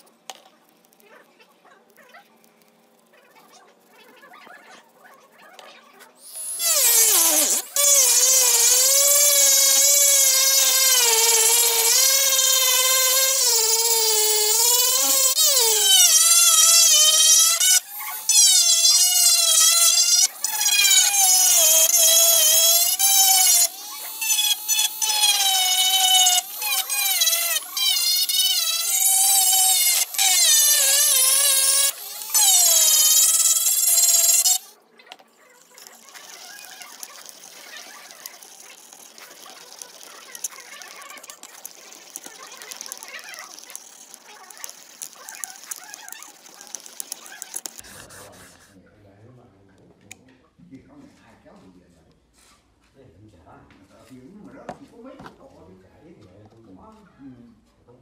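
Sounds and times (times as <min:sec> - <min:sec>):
rotary tool sanding metal and plastic: 0:00.0 - 0:48.8.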